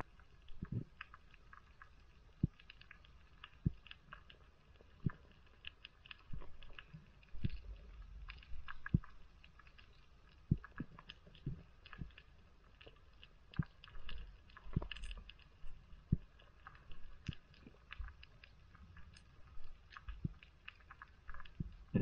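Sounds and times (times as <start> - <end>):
underwater clicks and crackles: 0.0 - 22.0.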